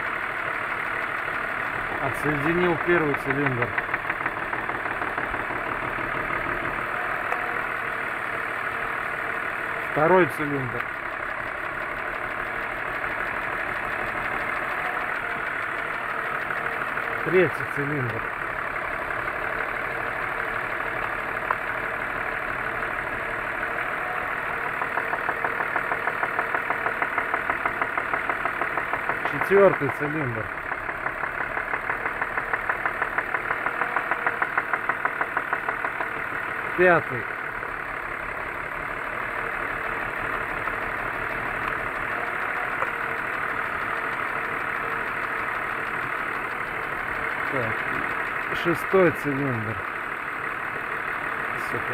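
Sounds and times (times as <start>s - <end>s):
car engine idling: 0.0s - 51.9s
regular ticking knock: 0.1s - 7.4s, 10.0s - 21.9s, 24.5s - 51.6s.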